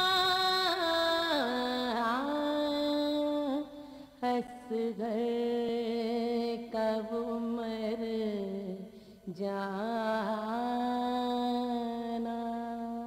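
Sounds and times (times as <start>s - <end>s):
woman singing a lament: 0.0s - 13.0s.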